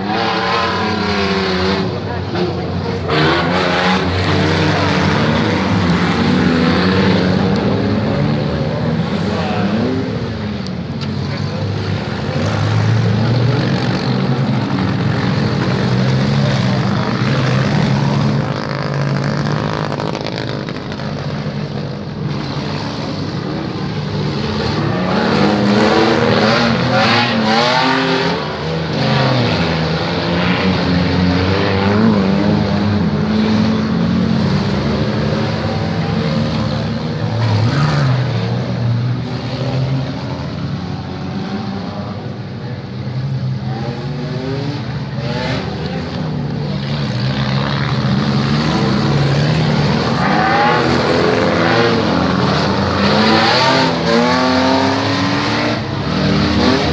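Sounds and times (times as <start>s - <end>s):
car engines revving hard: 0.0s - 56.9s.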